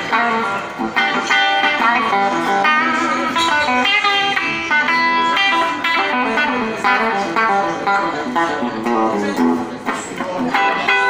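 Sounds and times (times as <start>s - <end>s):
blues electric guitar lead: 0.0s - 11.0s.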